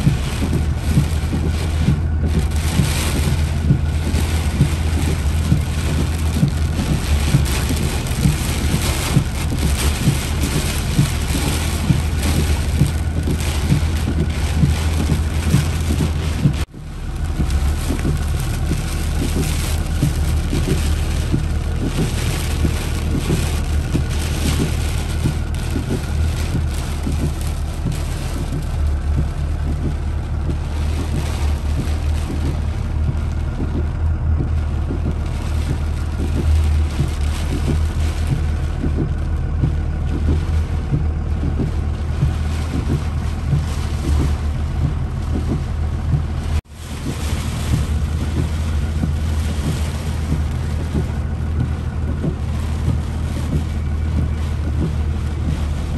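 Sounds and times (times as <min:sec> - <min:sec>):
engine rumble: 0:00.0 - 0:55.9
rain beating on a car: 0:00.0 - 0:55.9.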